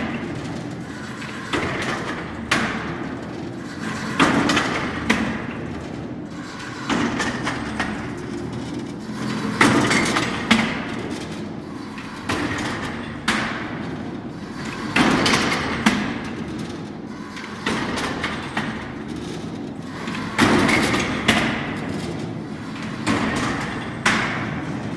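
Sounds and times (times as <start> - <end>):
brick machine thud and clatter: 0.0 - 24.9
machine rattle: 0.0 - 24.9.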